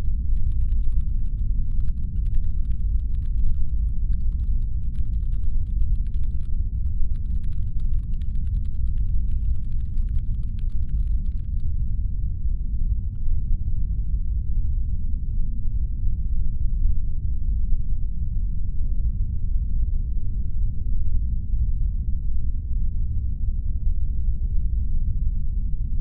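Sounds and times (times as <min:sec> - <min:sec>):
deep brown noise hum: 0:00.0 - 0:26.0.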